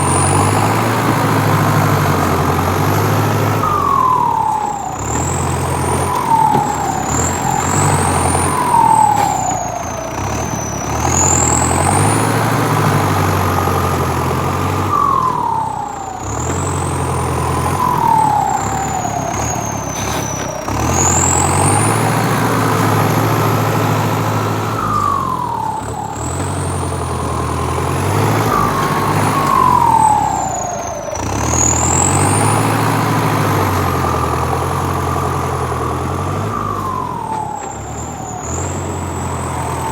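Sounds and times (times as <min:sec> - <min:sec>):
emergency siren wailing: 0:00.0 - 0:39.9
low engine hum: 0:00.0 - 0:39.9.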